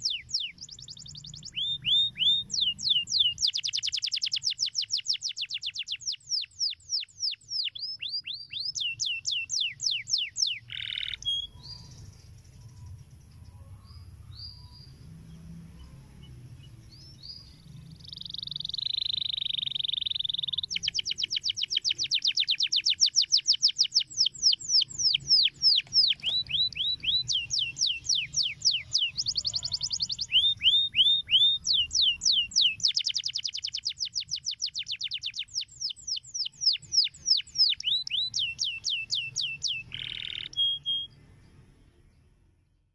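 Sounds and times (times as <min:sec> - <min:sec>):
canary singing trills: 0:00.0 - 0:41.4.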